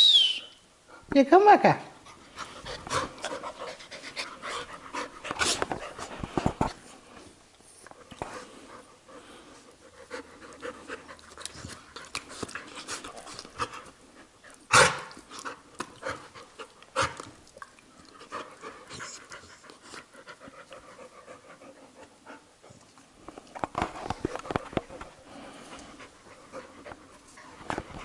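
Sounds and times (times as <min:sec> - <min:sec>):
dogs panting: 0:02.0 - 0:06.8, 0:08.1 - 0:23.1, 0:24.2 - 0:28.0.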